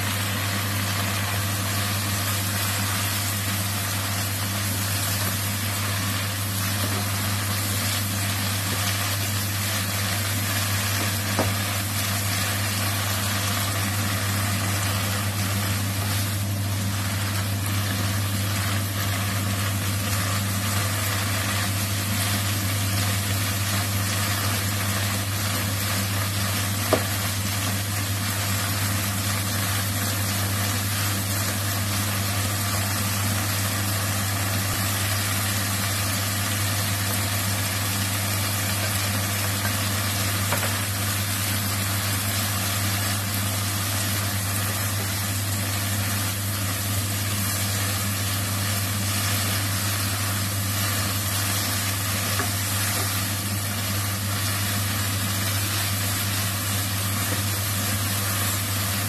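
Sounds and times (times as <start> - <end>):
vegetables sizzling in a wok: 0.0 - 59.0.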